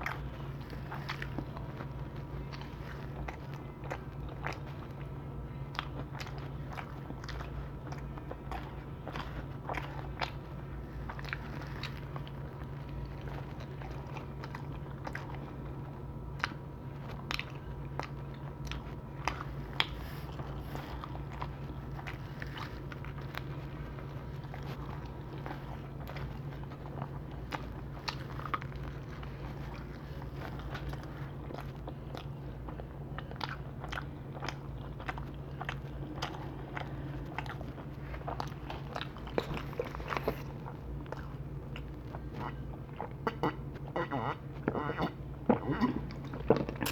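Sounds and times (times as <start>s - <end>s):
chewing and crust crunching: 0.0s - 46.9s.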